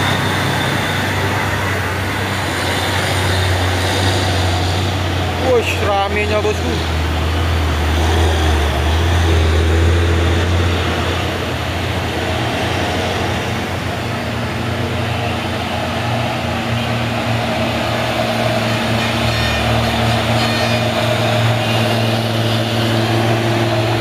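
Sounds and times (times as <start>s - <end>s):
diesel truck engines droning: 0.0s - 24.0s.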